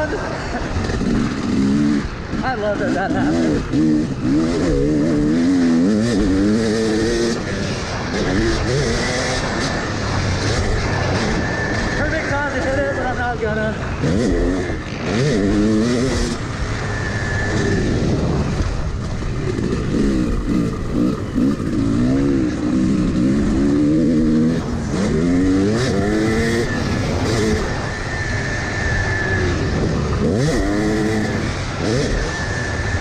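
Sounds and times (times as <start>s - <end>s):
two-stroke dirt bike engine revving: 0.0s - 33.0s.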